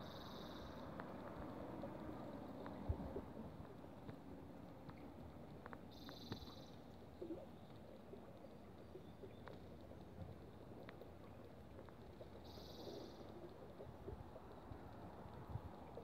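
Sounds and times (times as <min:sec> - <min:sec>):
light ticks: 0:00.0 - 0:16.0.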